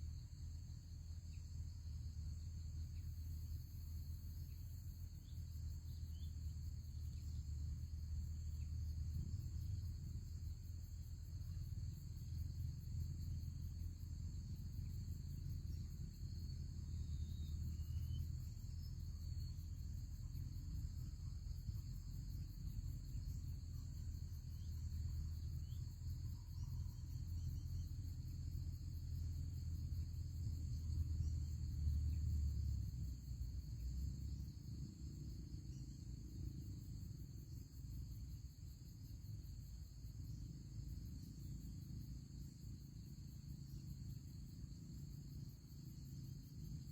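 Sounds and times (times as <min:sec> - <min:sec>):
constant low rumble: 0:00.0 - 0:46.9
insect chorus: 0:00.0 - 0:46.9.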